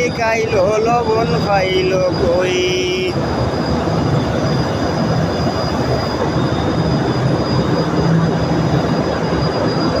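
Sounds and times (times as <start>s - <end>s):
thin high whine: 0.0s - 10.0s.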